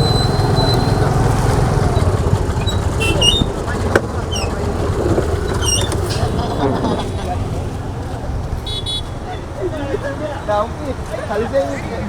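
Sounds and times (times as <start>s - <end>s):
scooter rumble: 0.0s - 12.0s.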